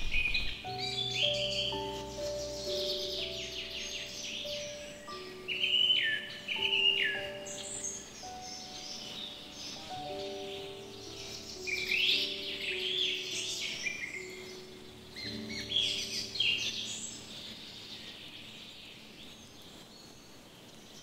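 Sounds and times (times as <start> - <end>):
faint background music: 0.0 - 21.0
songbirds chirping and singing: 0.0 - 21.0.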